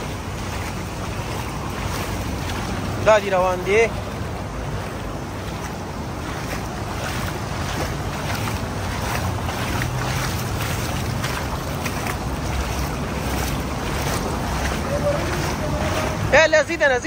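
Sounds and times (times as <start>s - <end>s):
wind buffeting microphone: 0.0s - 16.7s
water in stream channel: 0.0s - 17.0s.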